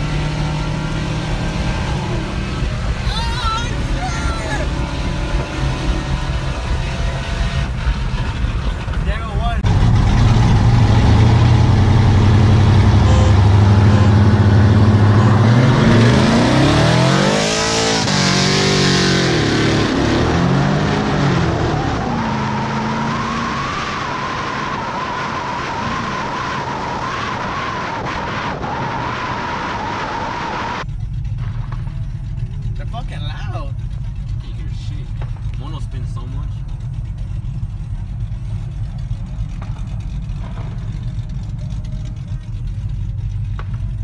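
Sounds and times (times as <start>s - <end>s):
constant whine: 0.0s - 44.0s
engines revving through gears: 0.0s - 44.0s
wind and road noise: 0.0s - 44.0s.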